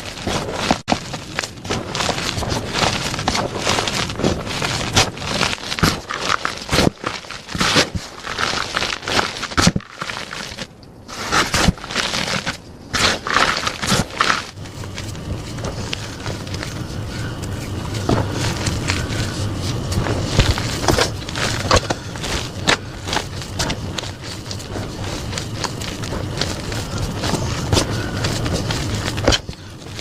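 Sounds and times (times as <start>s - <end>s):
chalk blocks crunching: 0.0s - 30.0s.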